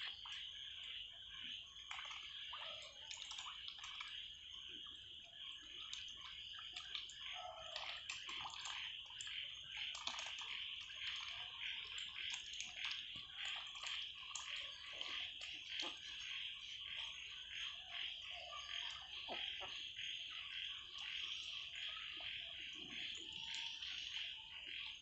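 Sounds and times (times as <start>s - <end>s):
ducks splashing in water: 1.8s - 4.3s, 5.7s - 24.8s.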